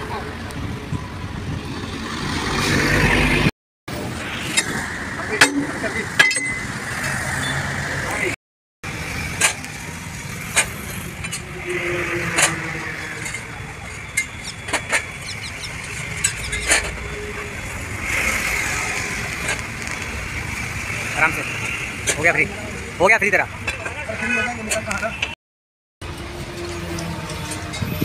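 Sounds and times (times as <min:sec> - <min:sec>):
steady traffic noise: 0:00.0 - 0:25.4, 0:26.0 - 0:28.0.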